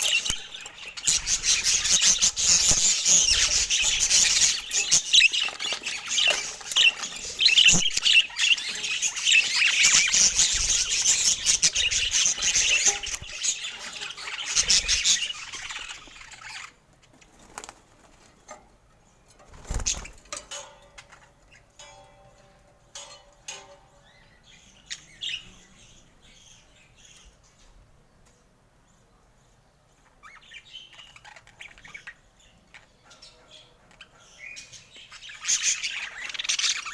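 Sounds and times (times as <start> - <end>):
parakeets chattering and chirping: 0.0 - 18.5, 19.4 - 27.8, 29.9 - 36.9.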